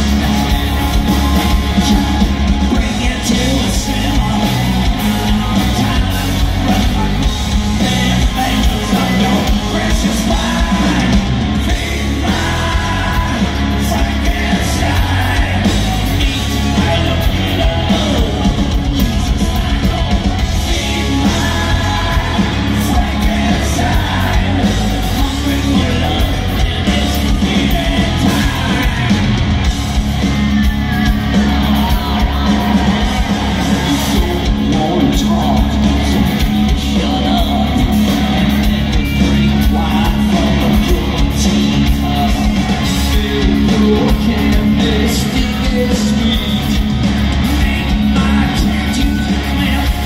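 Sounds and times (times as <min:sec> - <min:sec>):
person singing: 0:00.0 - 0:29.6, 0:30.6 - 0:50.0
live hard rock band: 0:00.0 - 0:50.0.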